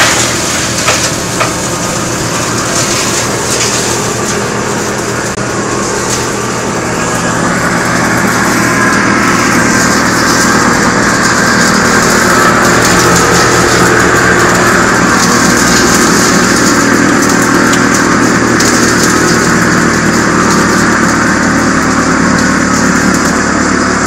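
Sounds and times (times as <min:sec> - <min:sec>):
wood chipper drone: 0:00.0 - 0:24.0.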